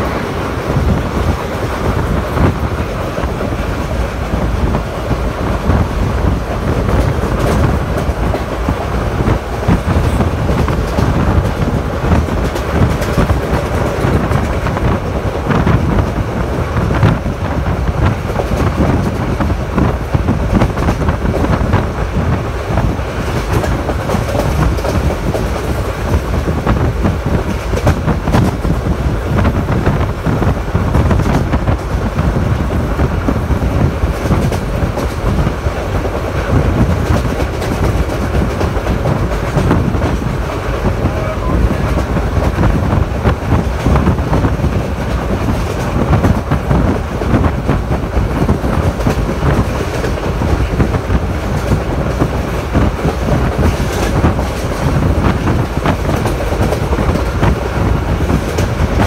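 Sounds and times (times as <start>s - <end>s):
train coaches rumbling: 0.0s - 59.0s.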